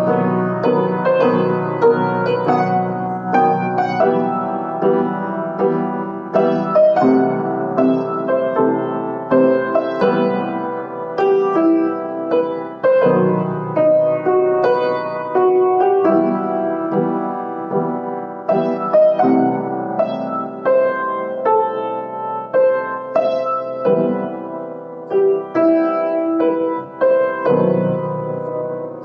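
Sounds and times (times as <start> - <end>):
solo piano melody: 0.0 - 29.0.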